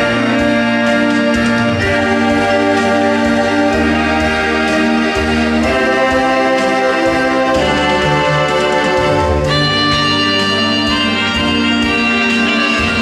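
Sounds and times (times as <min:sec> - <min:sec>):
organ-like chords: 0:00.0 - 0:13.0.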